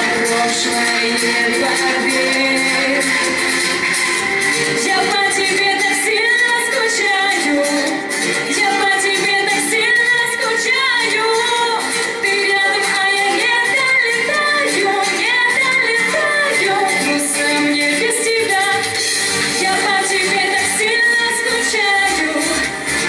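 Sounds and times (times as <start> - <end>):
woman singing into a microphone: 0.0 - 3.8, 4.6 - 23.0
amplified accompaniment with beat: 0.0 - 23.0.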